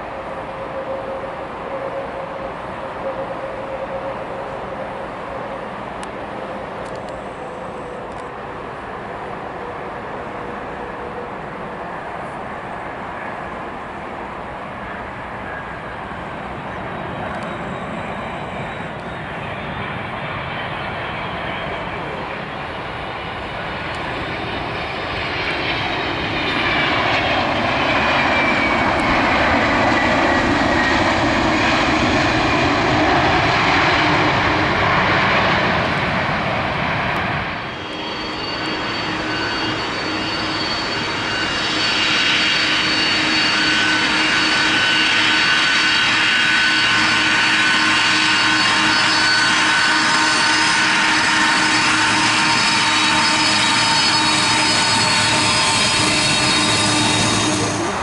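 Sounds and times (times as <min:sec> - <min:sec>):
jet engines passing: 0:00.0 - 0:58.0.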